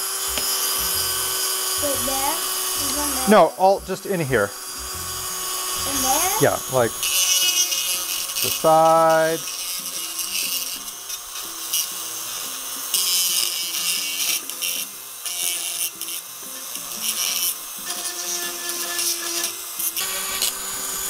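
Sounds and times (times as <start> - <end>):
rotary tool grinding plastic: 0.0 - 3.4, 4.0 - 21.0.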